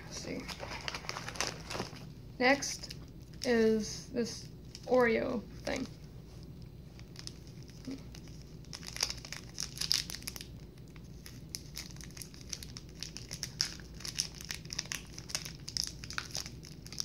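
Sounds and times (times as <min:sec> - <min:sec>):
plastic wrapper crinkling and tearing: 0:00.2 - 0:02.1, 0:02.7 - 0:03.6, 0:04.4 - 0:05.9, 0:06.5 - 0:17.0.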